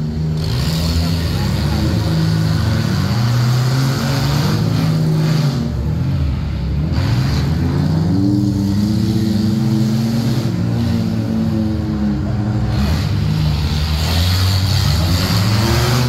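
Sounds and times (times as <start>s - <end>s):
race car engines running laps: 0.0s - 16.0s.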